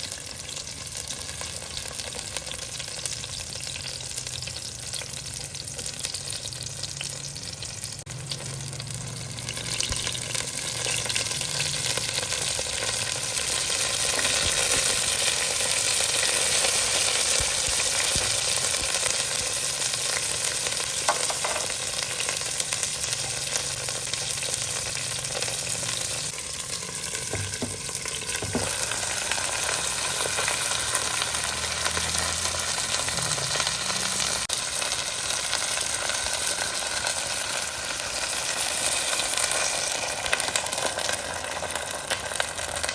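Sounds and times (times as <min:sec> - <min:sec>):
food sizzling in hot oil: 0:00.0 - 0:42.9.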